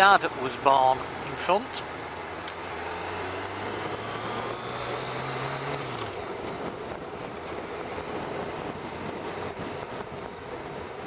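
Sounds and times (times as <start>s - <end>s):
wind and road noise: 0.0s - 11.0s
motorcycle engine running: 1.0s - 11.0s.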